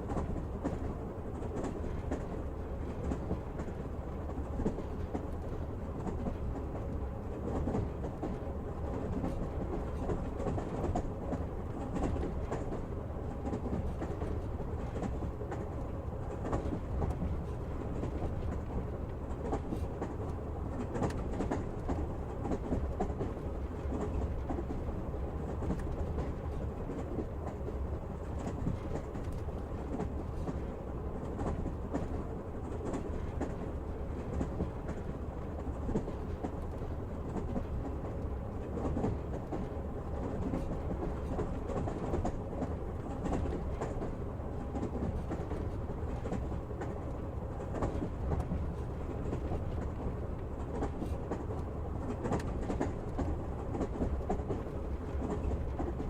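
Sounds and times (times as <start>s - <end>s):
clicks and knocks from track: 0.0s - 56.0s
train wheels rumbling on rails: 0.0s - 56.0s.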